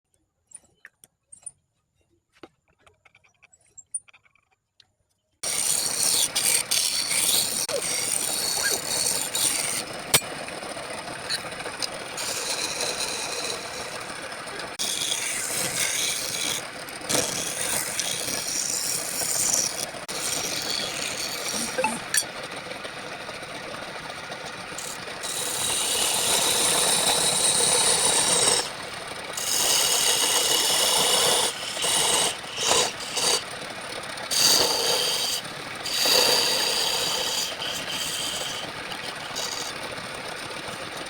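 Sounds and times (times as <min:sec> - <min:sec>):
lathe tool scraping wood: 0:05.4 - 0:41.0.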